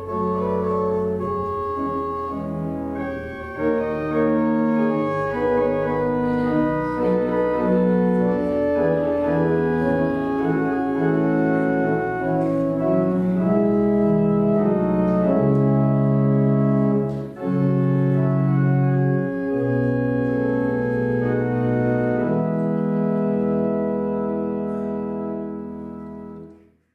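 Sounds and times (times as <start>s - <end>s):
organ playing sustained chords: 0.0s - 26.7s.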